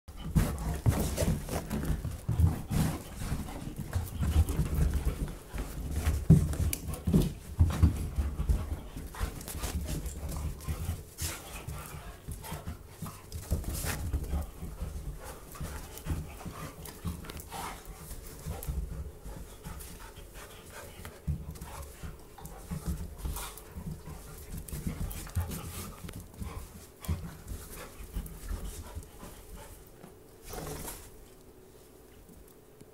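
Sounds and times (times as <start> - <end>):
dogs panting: 0.1 - 31.2
paws scuffling on carpet: 0.1 - 32.5.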